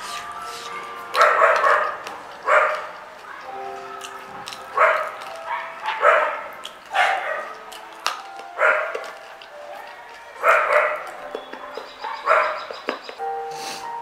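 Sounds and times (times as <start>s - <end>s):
dog barking: 1.1s - 13.2s.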